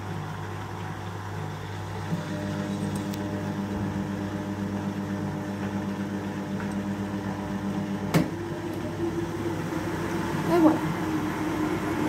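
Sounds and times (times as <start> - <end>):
washing machine drain pump humming: 0.0 - 12.0.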